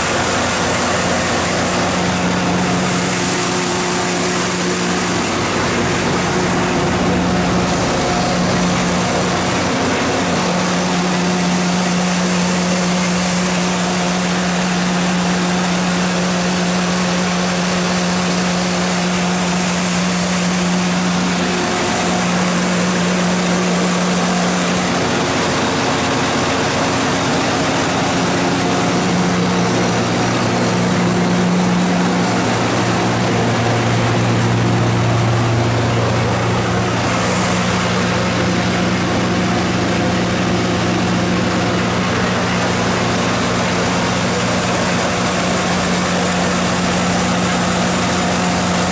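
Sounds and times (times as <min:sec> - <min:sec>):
generator engine humming: 0:00.0 - 0:48.9.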